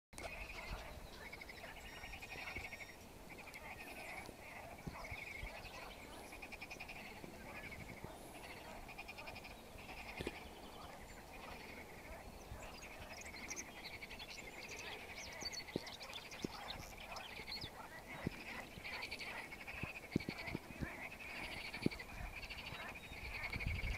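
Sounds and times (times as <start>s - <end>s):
chorus of frogs calling: 0.2s - 23.9s.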